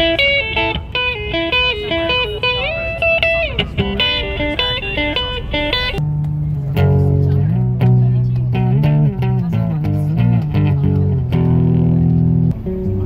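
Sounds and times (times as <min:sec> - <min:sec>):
electric guitar lead melody: 0:00.0 - 0:13.0.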